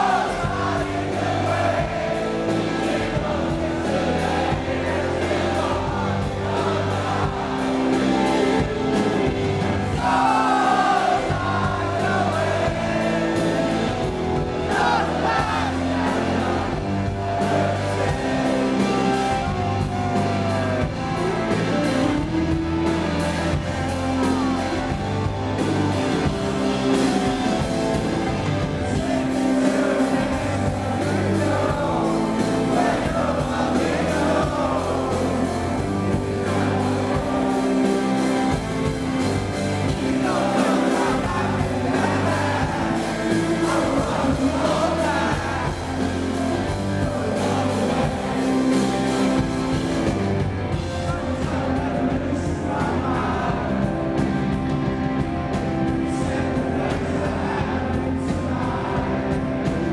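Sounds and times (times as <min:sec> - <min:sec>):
drums: 0:00.0 - 0:59.9
electric guitar: 0:00.0 - 0:59.9
male lead singer: 0:00.0 - 0:59.9.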